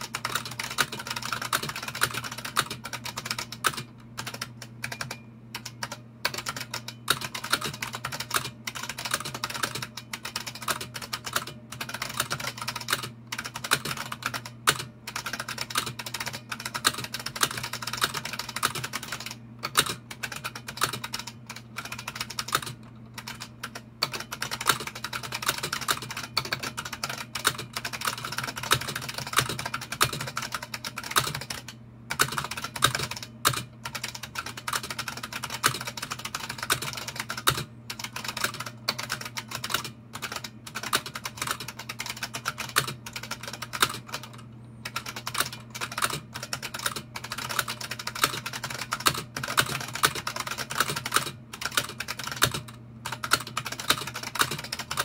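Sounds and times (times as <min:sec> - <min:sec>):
fast keyboard typing: 0:00.0 - 0:55.0.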